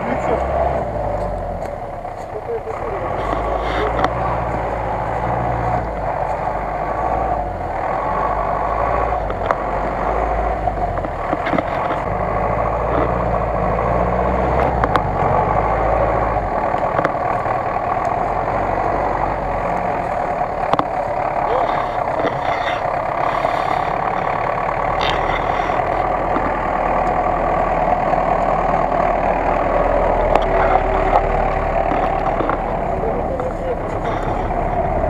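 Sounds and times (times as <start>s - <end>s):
truck engine running under load: 0.0s - 35.0s.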